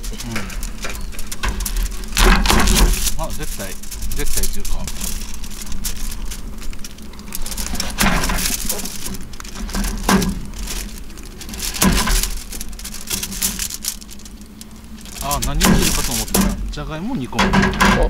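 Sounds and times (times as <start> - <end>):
foil crackling: 0.0 - 18.0.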